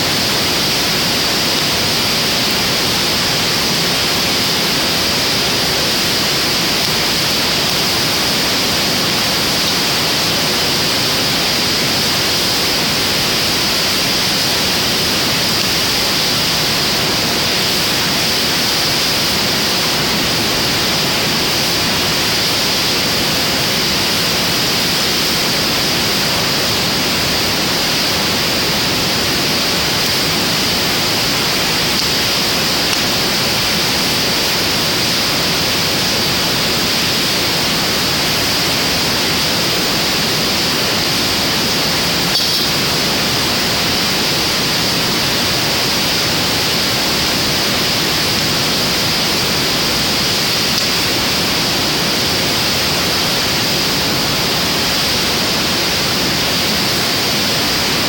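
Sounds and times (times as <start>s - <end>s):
steady rushing hiss: 0.0s - 58.0s.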